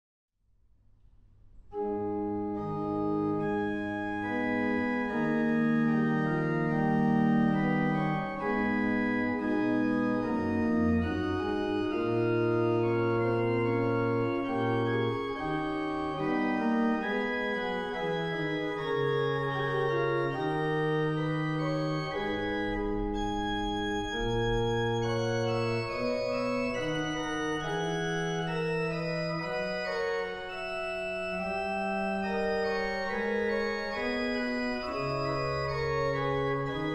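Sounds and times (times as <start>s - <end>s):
organ playing chords: 1.7s - 36.9s.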